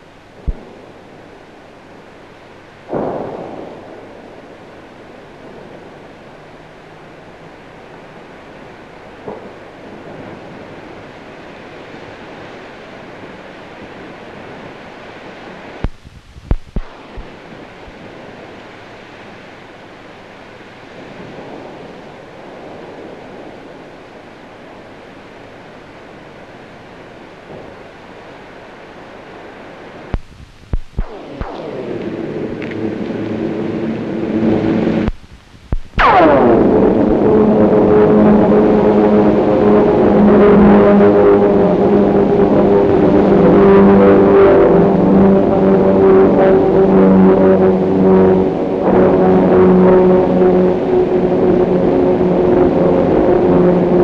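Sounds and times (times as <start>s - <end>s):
film transfer hiss and rumble: 0.0s - 54.0s.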